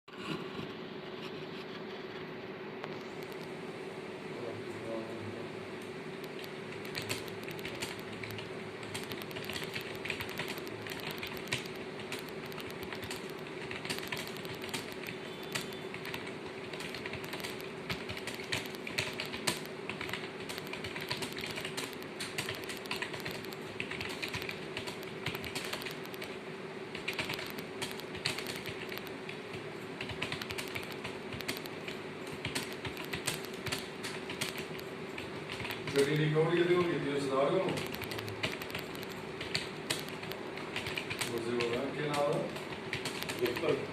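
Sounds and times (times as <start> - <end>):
steady low hum: 0.1 - 43.9
fast keyboard typing: 2.9 - 3.6, 6.2 - 43.9.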